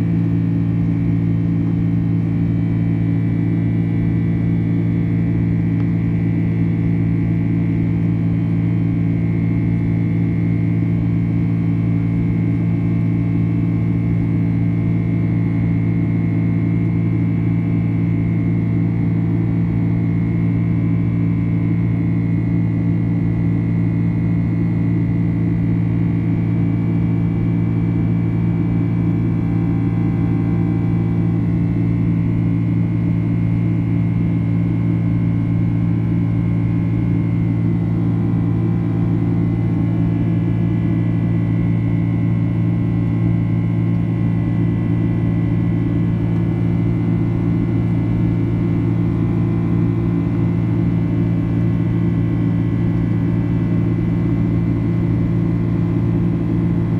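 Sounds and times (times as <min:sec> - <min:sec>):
jet engine drone in cabin: 0:00.0 - 0:56.9.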